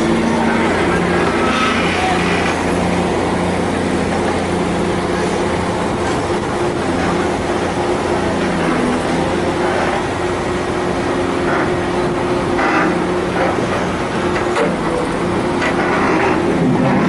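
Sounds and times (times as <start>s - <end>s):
vibratory pile hammer humming: 0.0s - 17.0s.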